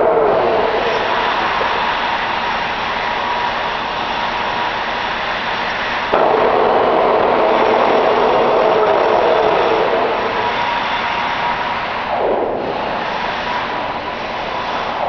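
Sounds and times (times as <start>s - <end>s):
metal lathe running: 0.0s - 15.0s
mid-pitched hum: 0.0s - 15.0s.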